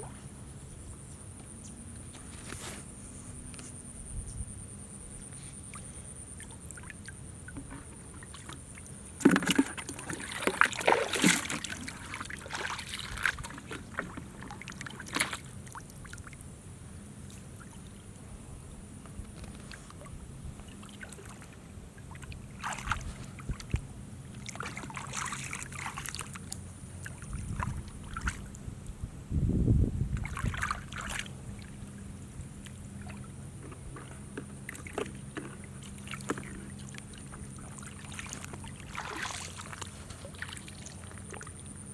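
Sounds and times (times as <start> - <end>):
water splashing and sloshing: 5.2 - 29.0, 29.8 - 41.9.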